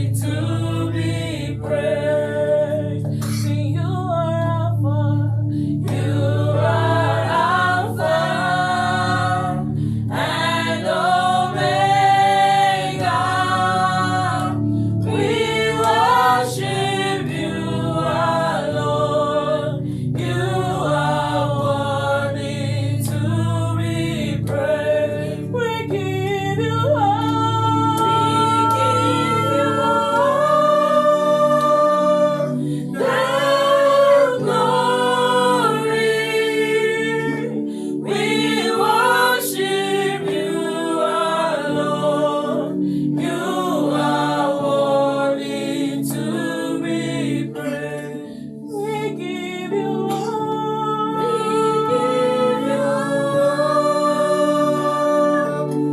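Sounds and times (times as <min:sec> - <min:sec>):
choir singing in harmony: 0:00.0 - 0:55.9.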